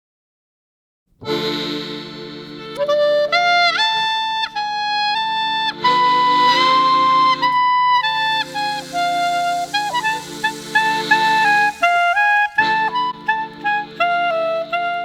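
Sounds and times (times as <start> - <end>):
upbeat woodwind music with beat: 1.4 - 15.0.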